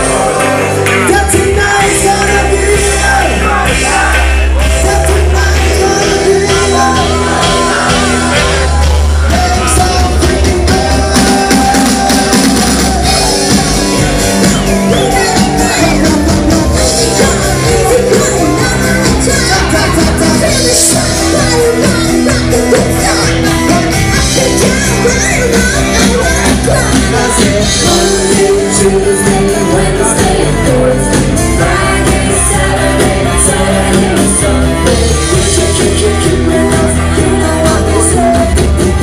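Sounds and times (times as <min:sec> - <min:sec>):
crowd shouting and singing along: 0:00.0 - 0:39.0
live pop-rock band with singer: 0:00.0 - 0:39.0.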